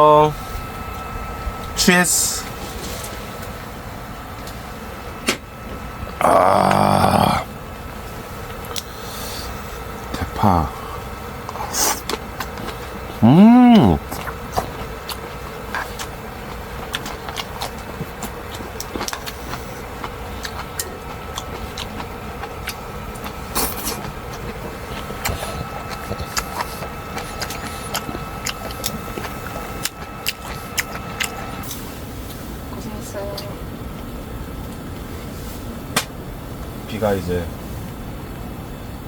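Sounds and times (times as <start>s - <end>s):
fan heater humming: 0.0s - 39.0s.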